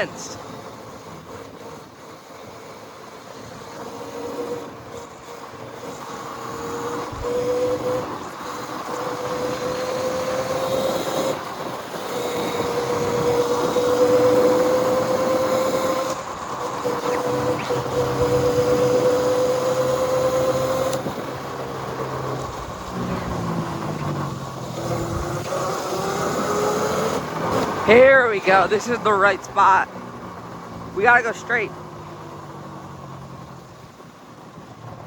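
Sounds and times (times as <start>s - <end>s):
electric bike motor whining: 0.0s - 35.0s
low vehicle engine: 0.0s - 35.0s
rushing road noise: 0.0s - 35.0s.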